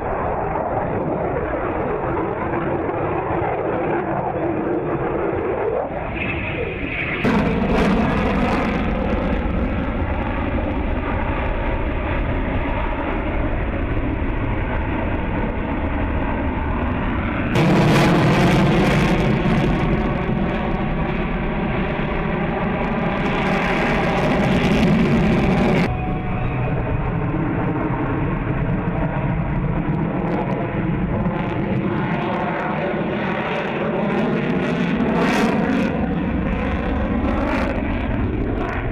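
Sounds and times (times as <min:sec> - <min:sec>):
jet engine roar: 0:00.0 - 0:38.9.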